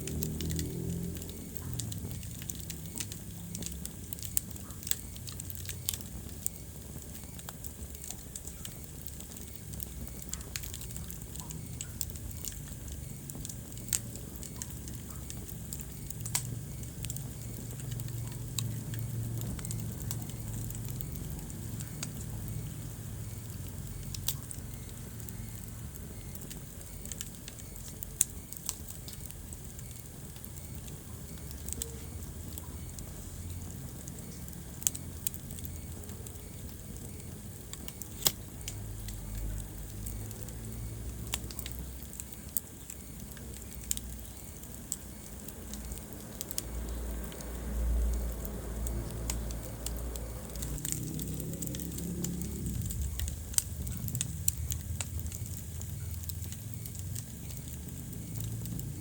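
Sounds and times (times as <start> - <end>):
fire flames rumbling: 0.0 - 59.0
wood fire crackling and popping: 0.0 - 59.0.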